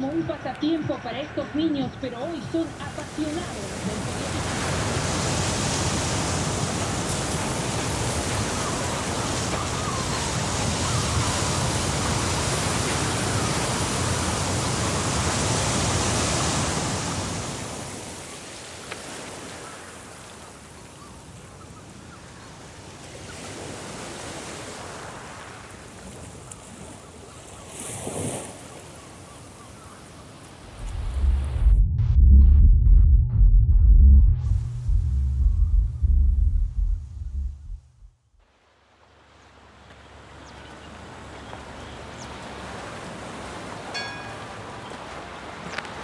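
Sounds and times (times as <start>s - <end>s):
waves breaking on beach: 0.0s - 30.8s, 38.5s - 46.0s.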